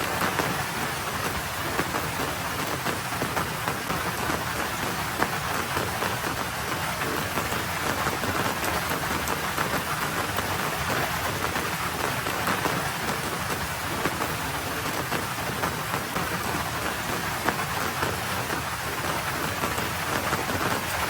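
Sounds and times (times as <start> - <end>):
light rain falling on a road: 0.0 - 21.0.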